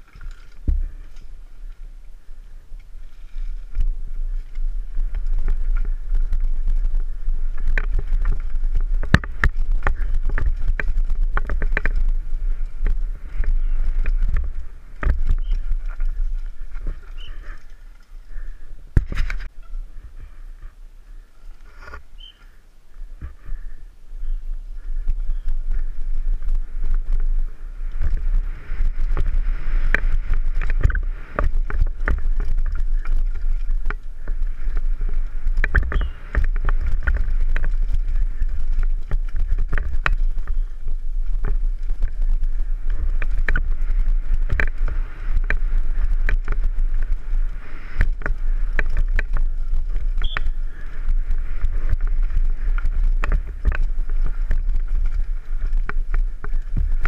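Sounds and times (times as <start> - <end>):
bike frame and chain rattling: 0.0 - 19.7, 24.9 - 57.0
wind rumble on microphone: 0.0 - 57.0.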